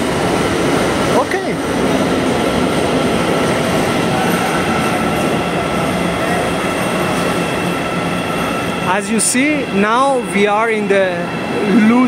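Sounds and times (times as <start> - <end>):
subway train rumble and hiss: 0.0 - 12.0.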